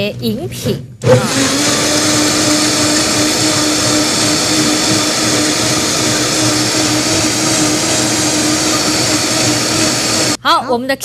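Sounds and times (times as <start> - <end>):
blender whirring: 1.0 - 10.4.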